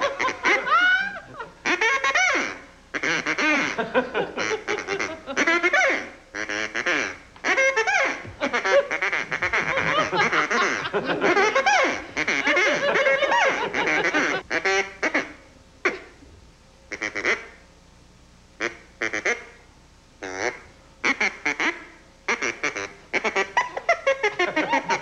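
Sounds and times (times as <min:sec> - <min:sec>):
duck call quacking: 0:00.0 - 0:16.2, 0:16.9 - 0:17.6, 0:18.6 - 0:19.6, 0:20.2 - 0:25.0.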